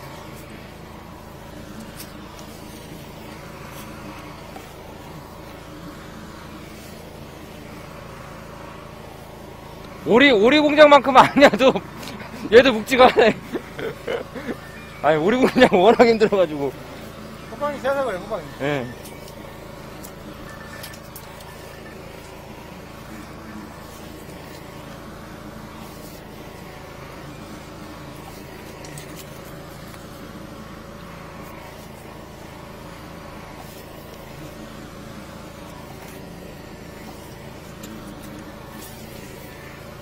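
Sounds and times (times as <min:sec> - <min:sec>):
engine and pump running: 0:00.0 - 0:40.0.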